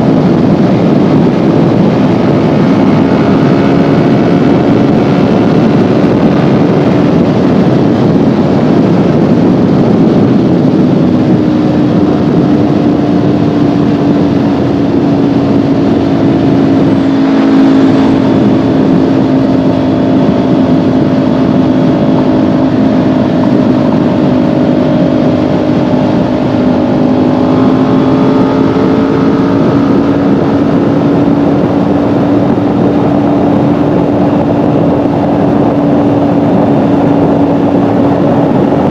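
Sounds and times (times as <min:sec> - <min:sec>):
motorcycle engine cruising: 0:00.0 - 0:38.9
steady rush of noise: 0:00.0 - 0:38.9.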